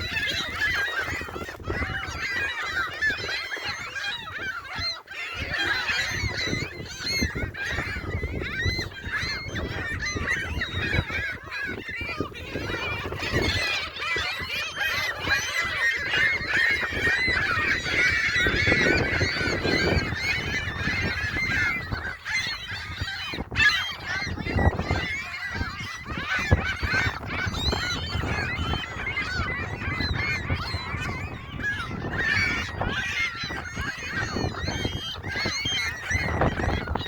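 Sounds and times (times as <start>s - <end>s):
gulls calling: 0.0s - 37.0s.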